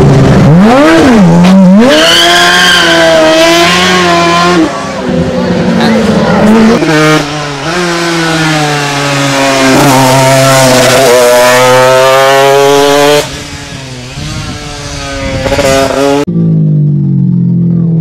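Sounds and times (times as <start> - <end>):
motorcycle engine revving high: 0.0 - 18.0
sidecar engine: 0.0 - 18.0.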